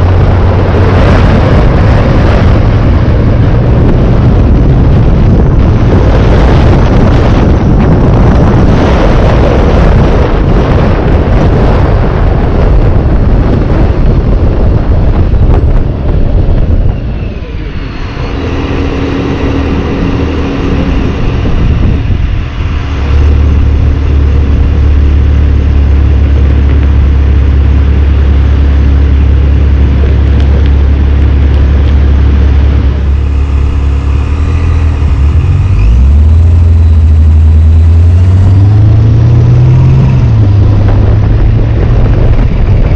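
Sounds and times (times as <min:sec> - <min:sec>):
car engine humming: 0:00.0 - 0:42.9
wind and road rush: 0:00.0 - 0:42.9.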